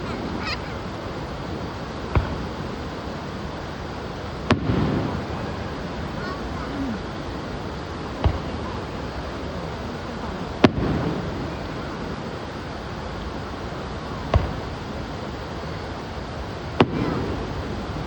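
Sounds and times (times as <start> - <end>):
fireworks bursting: 0.0 - 18.0
rushing background noise: 0.0 - 18.0.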